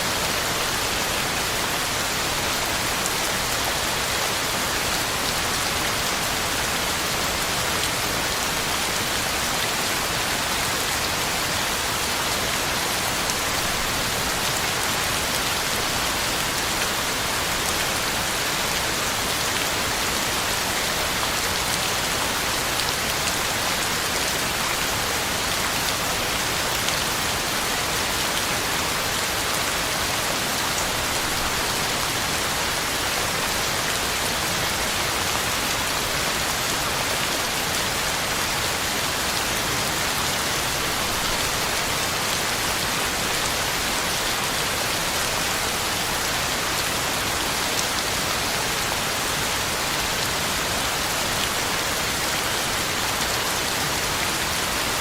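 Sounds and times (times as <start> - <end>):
heavy rain on ground and leaves: 0.0 - 55.0.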